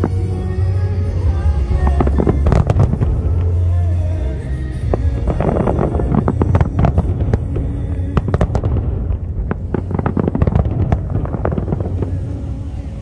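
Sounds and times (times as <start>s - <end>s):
fireworks bangs and crackles: 0.0s - 13.0s
low rumble of fireworks: 0.0s - 13.0s.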